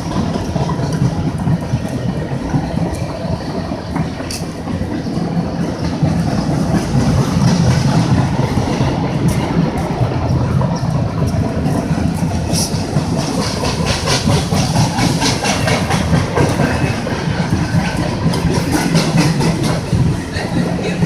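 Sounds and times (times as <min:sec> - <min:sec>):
train low rumble: 0:00.0 - 0:21.0
train wheels clicking on rail joints: 0:00.0 - 0:21.0.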